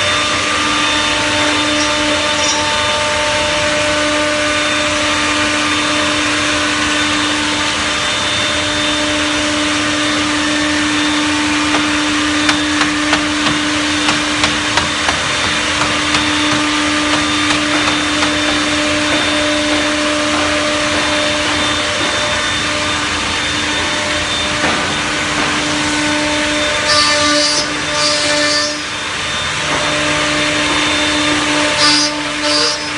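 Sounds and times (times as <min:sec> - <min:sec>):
machine humming: 0:00.0 - 0:32.9.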